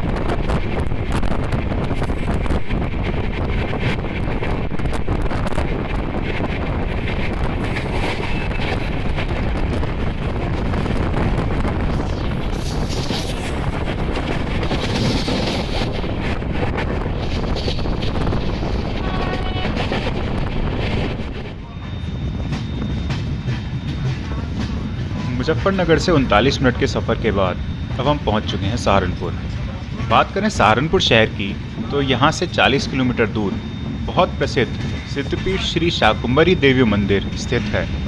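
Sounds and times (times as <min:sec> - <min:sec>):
wind buffeting microphone: 0:00.0 - 0:36.3
train wheels rumbling on rails: 0:00.0 - 0:38.0.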